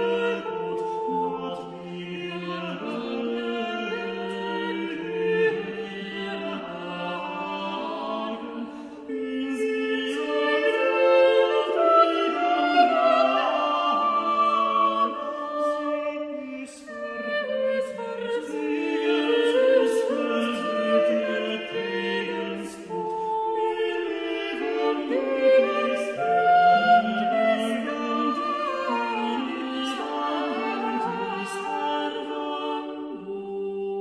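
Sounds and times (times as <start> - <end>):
choir singing in harmony: 0.0 - 34.0.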